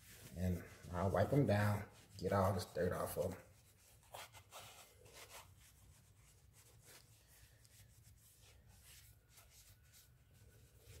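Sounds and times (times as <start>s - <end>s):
cloth rag rubbing a wheel: 0.0s - 11.0s.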